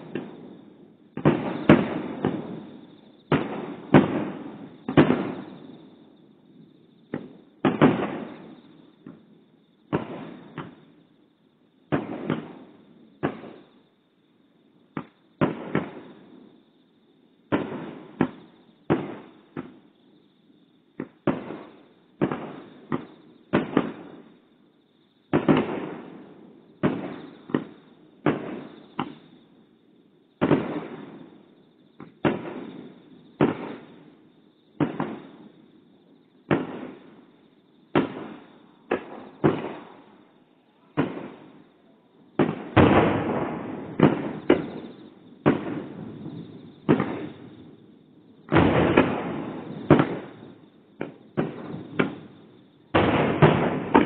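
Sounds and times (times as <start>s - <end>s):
distant fireworks bursting with echo: 0.0s - 14.1s, 14.7s - 54.0s.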